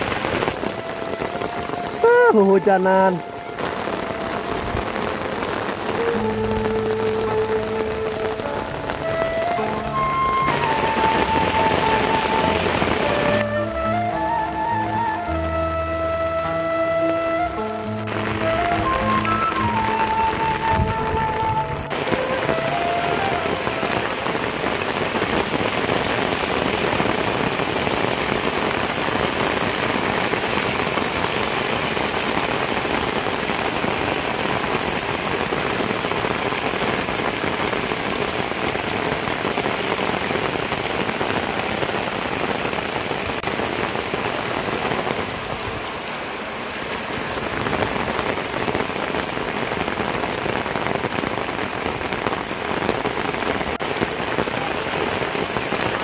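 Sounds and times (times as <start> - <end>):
heavy rain splashing: 0.0 - 56.0.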